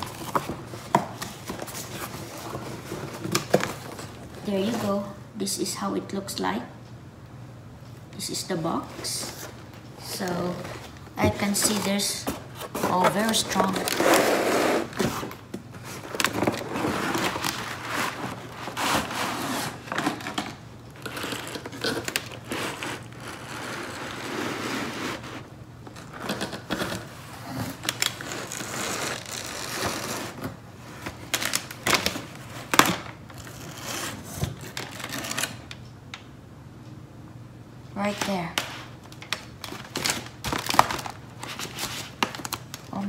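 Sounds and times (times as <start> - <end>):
plastic packaging rustling: 0.0 - 5.1, 9.0 - 35.8, 38.7 - 43.0.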